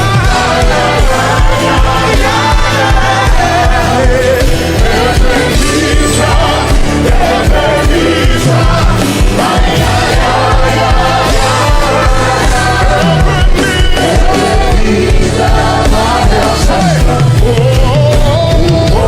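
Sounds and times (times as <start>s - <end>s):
band playing gospel music: 0.0s - 19.0s
voices singing: 0.0s - 19.0s.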